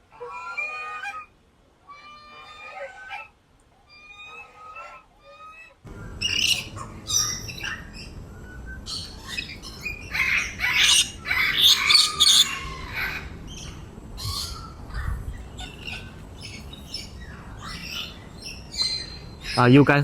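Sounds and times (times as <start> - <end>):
birds squawking and chirping: 0.0 - 20.0.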